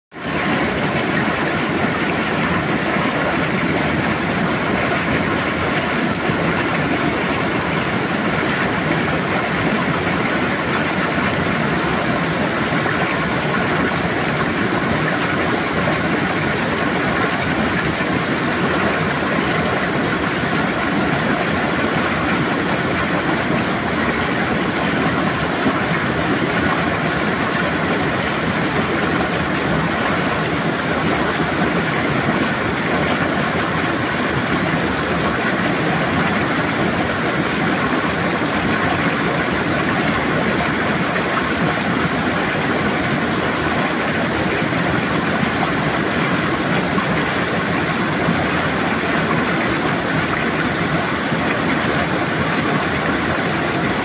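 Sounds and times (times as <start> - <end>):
stream splashing over stones: 0.2 - 54.0.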